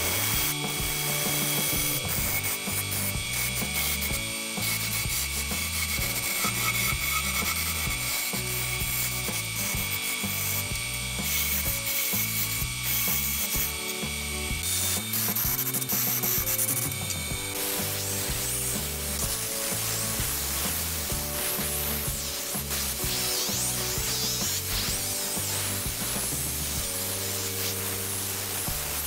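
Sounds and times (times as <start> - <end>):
gouge scraping turning wood: 0.0 - 29.0
lathe spinning hiss: 0.0 - 29.0.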